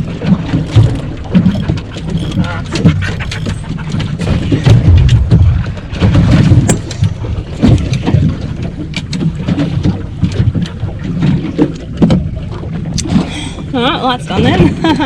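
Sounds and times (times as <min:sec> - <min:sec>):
boat low rumble: 0:00.0 - 0:15.0
knocks and water slaps: 0:00.0 - 0:15.0
wind buffeting microphone: 0:00.0 - 0:15.0.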